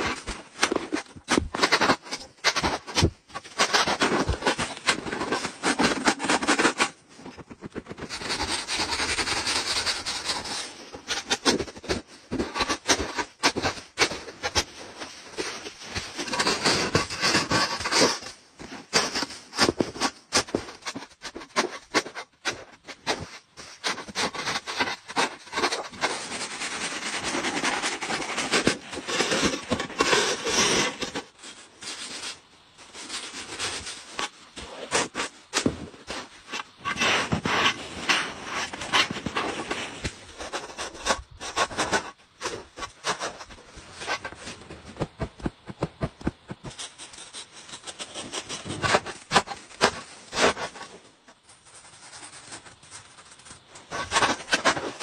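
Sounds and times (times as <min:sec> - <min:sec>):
shovel scraping snow: 0:00.0 - 0:32.4, 0:33.0 - 0:45.1, 0:46.0 - 0:51.0.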